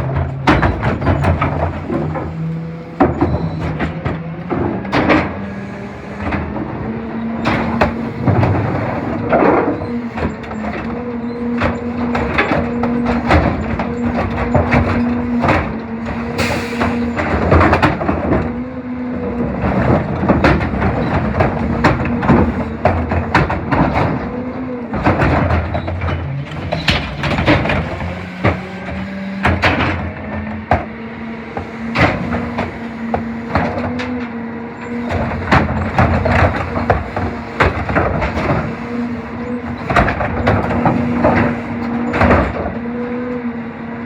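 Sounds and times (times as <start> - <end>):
clanks and bangs of refuse: 0.0 - 43.5
garbage truck engine humming: 0.0 - 44.0.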